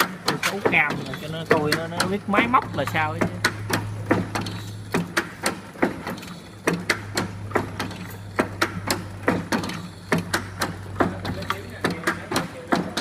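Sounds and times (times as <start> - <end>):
machine mechanism clacking: 0.0 - 13.0
steady motor hum: 0.0 - 13.0.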